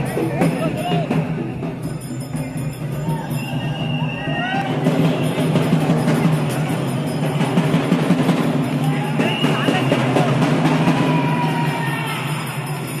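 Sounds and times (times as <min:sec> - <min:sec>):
drum-led music: 0:00.0 - 0:13.0.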